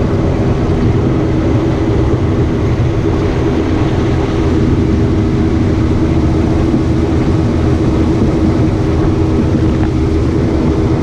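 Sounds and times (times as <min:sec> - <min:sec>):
boat engine droning: 0:00.0 - 0:11.0
water noise: 0:00.0 - 0:11.0
wind: 0:00.0 - 0:11.0.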